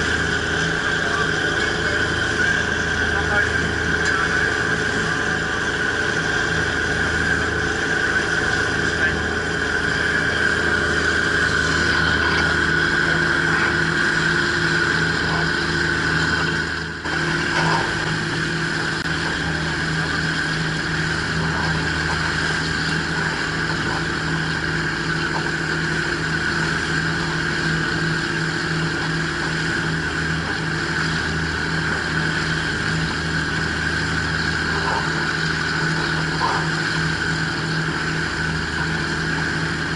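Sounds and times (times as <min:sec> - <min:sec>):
ferry engine hum: 0:00.0 - 0:39.9
water and hull noise: 0:00.0 - 0:39.9.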